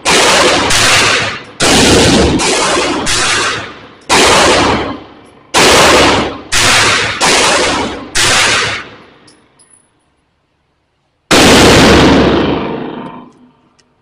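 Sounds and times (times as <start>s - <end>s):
echoing gunshots: 0.0s - 9.3s, 11.3s - 13.3s.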